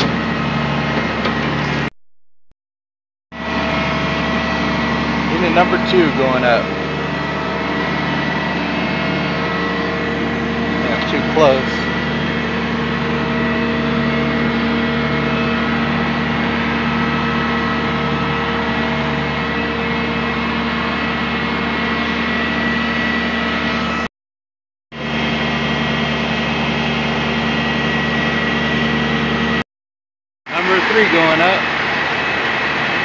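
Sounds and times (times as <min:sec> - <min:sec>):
crane engine droning: 0:00.0 - 0:01.9, 0:03.4 - 0:24.1, 0:25.0 - 0:29.6, 0:30.5 - 0:33.0.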